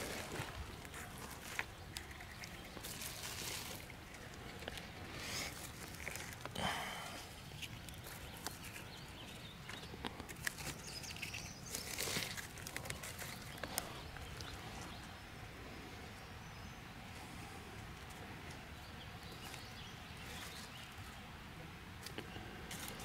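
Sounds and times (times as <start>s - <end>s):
rustling dry pine needles: 0.0s - 15.2s, 17.2s - 21.2s, 22.0s - 23.0s.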